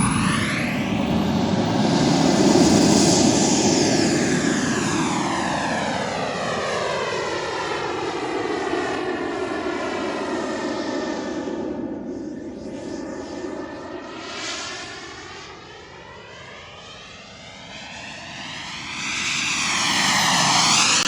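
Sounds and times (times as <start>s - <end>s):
model jet turbine flying past: 0.0s - 21.0s.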